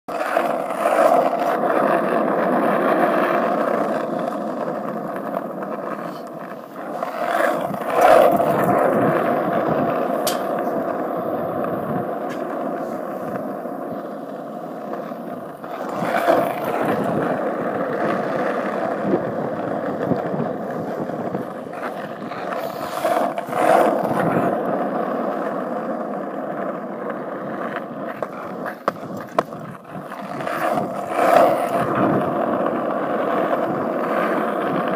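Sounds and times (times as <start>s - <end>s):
skateboard wheels rolling on asphalt: 0.1s - 34.9s.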